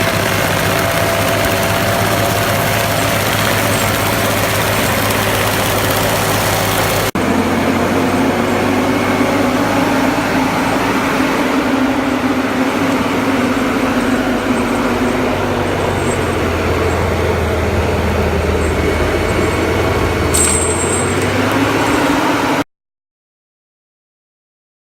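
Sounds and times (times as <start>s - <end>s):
heavy machine engine running: 0.0s - 22.6s.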